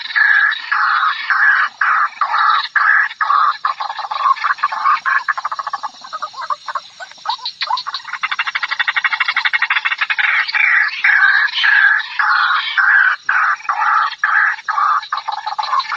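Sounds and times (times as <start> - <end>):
waterhen calling: 0.0 - 15.9.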